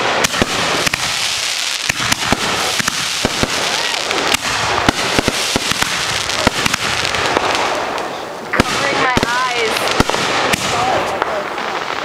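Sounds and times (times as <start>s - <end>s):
fireworks bangs: 0.0s - 12.0s
fireworks hiss: 0.0s - 12.0s.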